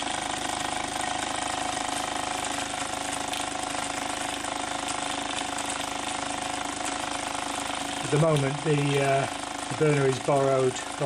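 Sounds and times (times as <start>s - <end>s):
gears and flywheel whirring: 0.0s - 11.0s.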